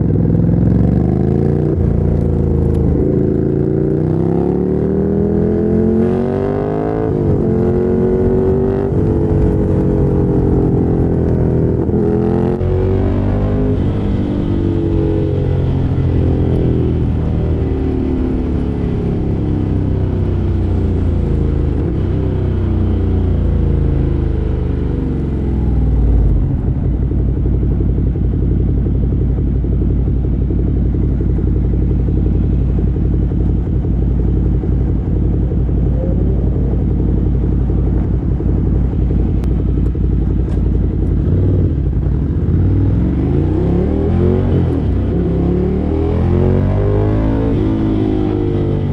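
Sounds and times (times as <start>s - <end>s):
motorcycle engine revving and idling: 0.0s - 48.9s.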